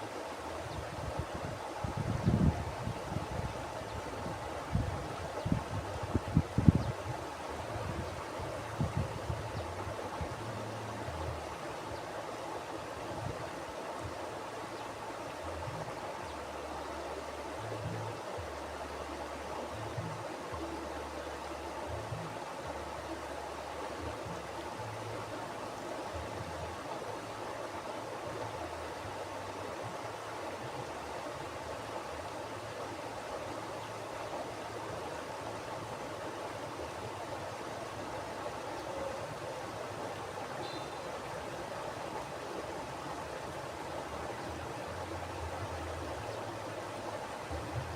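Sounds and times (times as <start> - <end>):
river water rushing over rocks: 0.0 - 47.9.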